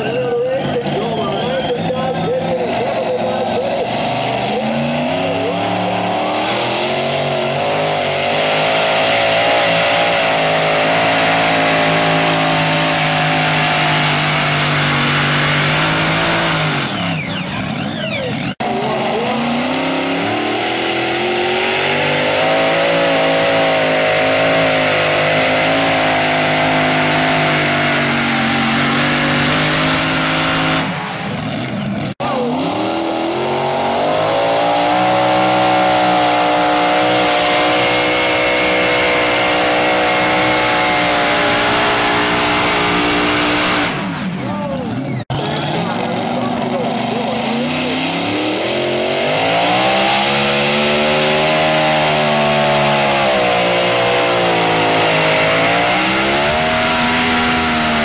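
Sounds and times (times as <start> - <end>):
pulling tractor engines racing: 0.0 - 58.0.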